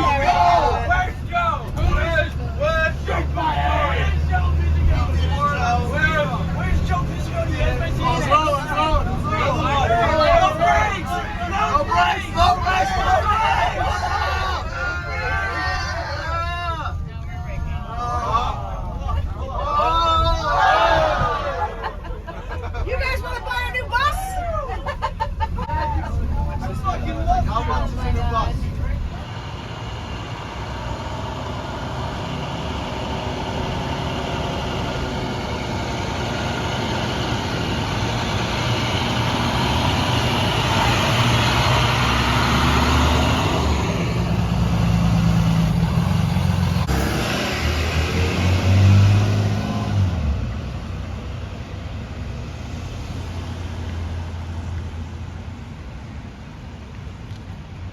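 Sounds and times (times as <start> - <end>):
bus engine running: 0.0 - 57.9
road noise: 0.0 - 57.9.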